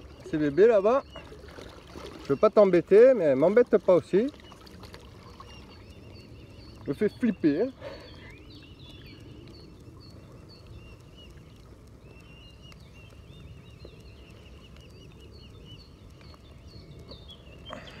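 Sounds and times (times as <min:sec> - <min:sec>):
low steady outdoor hum: 0:00.0 - 0:18.0.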